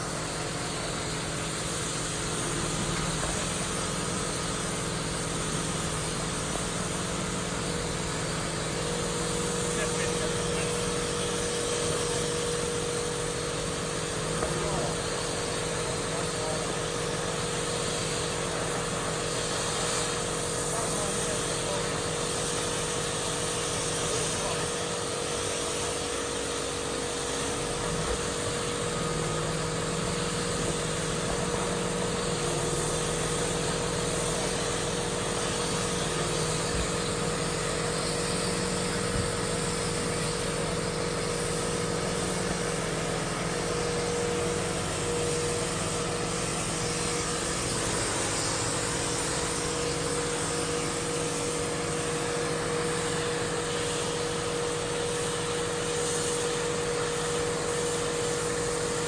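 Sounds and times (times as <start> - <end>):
machine humming: 0.0 - 58.9.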